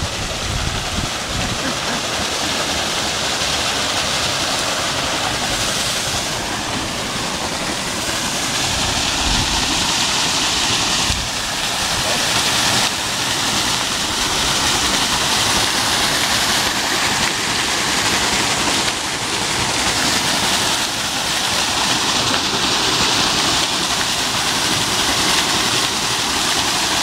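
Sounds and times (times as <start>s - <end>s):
water pouring over mill wheel: 0.0s - 27.0s
water splashing into channel: 0.0s - 27.0s.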